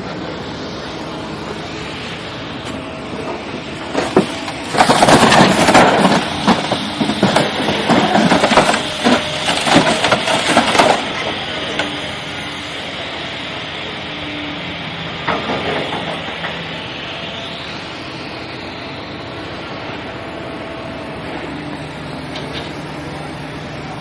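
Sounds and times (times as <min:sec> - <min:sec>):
vehicle running noise: 0:00.0 - 0:24.0.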